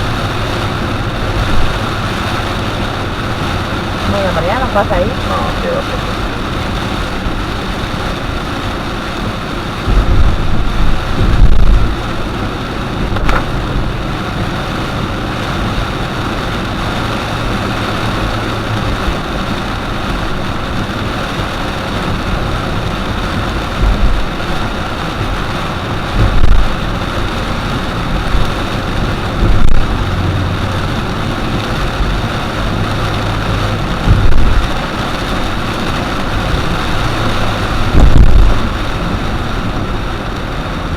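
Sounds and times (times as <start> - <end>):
low rumbles: 0.0 - 40.9
rain: 0.0 - 40.9
tyres hissing on wet road: 0.0 - 40.9.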